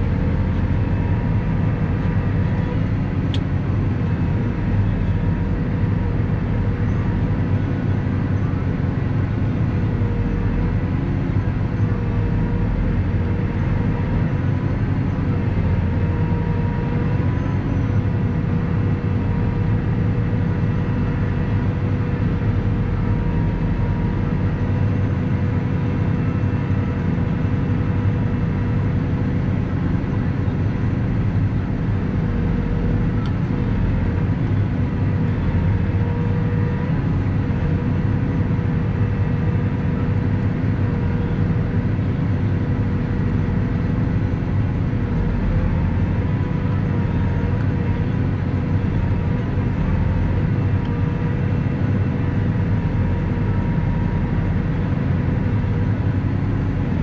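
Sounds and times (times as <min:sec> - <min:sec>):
tractor engine rumbling: 0:00.0 - 0:57.0.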